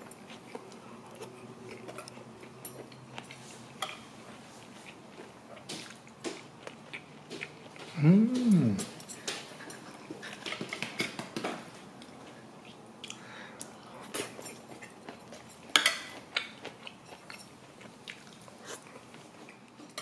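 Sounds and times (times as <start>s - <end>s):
soft chewing: 0.0s - 20.0s.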